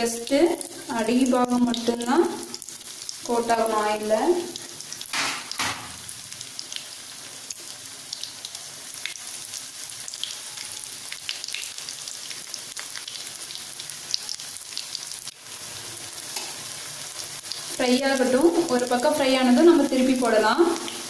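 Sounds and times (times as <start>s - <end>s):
cutlets sizzling in oil: 0.0s - 21.0s.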